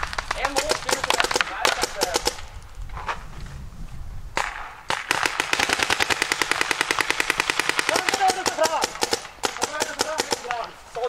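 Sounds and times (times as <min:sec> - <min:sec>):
paintball marker firing: 0:00.0 - 0:02.6, 0:04.4 - 0:11.0.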